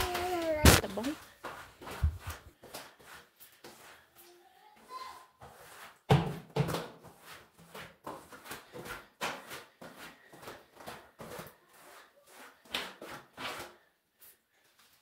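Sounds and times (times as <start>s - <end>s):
squeegee scraping wet tile floor: 0.0s - 15.0s.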